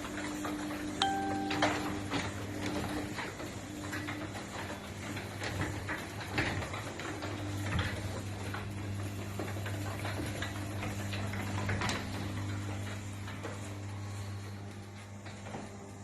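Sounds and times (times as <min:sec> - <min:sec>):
garage door motor hum: 0:00.0 - 0:16.0.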